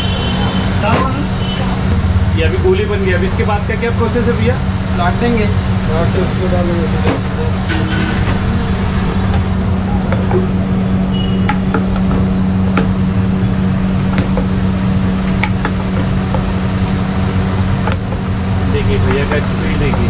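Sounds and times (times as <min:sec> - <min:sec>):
noisy roar: 0:00.0 - 0:20.0.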